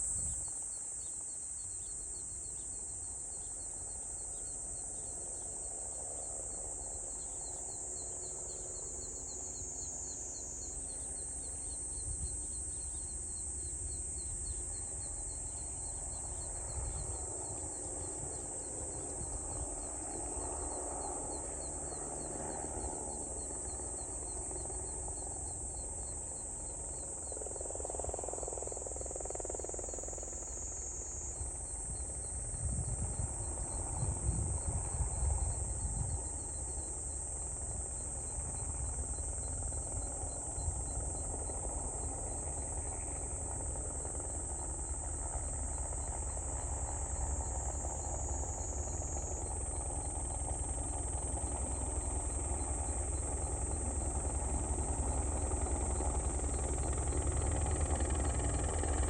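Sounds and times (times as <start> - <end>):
insects trilling: 0.0 - 59.0
helicopter rotor and engine: 2.3 - 59.0.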